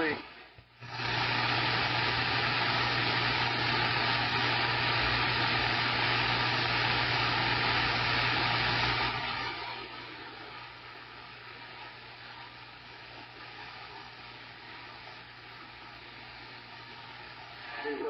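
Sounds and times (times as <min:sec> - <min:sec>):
radio static: 0:00.0 - 0:18.0.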